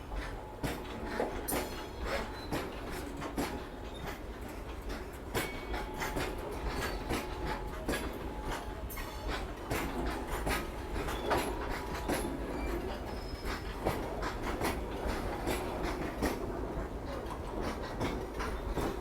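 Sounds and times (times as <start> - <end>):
train rumble: 0.0 - 19.0
train wheels clicking: 0.0 - 19.0.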